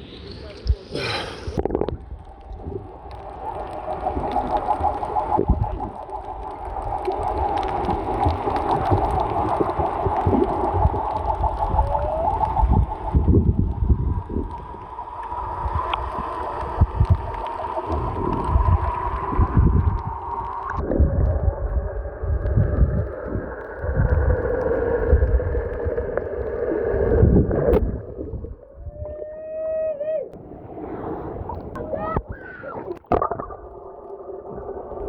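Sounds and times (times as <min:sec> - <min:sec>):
gurgling water: 0:00.4 - 0:29.3, 0:30.4 - 0:35.0.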